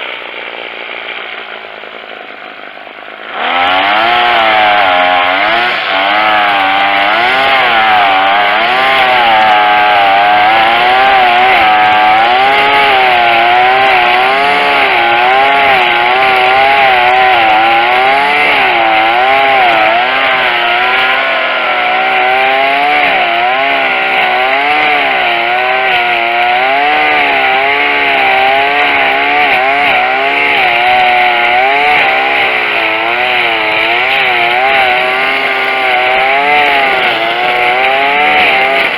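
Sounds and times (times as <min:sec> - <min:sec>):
string trimmer engine running: 0:02.7 - 0:38.9.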